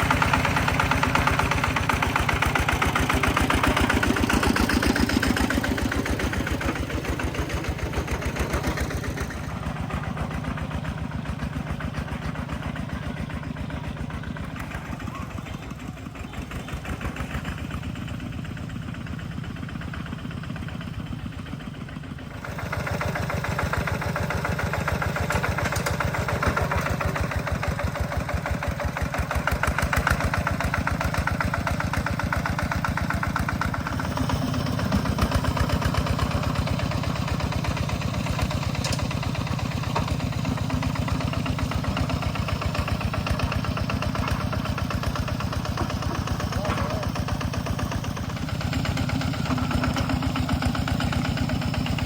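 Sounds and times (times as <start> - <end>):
engine running with even throb: 0.0 - 52.0.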